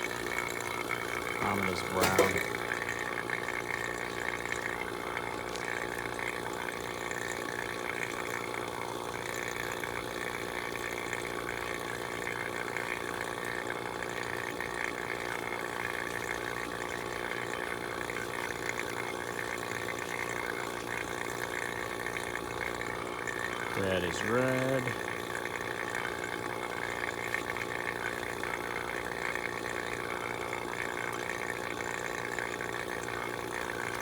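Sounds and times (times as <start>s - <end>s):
vacuum pump drone: 0.0s - 34.0s.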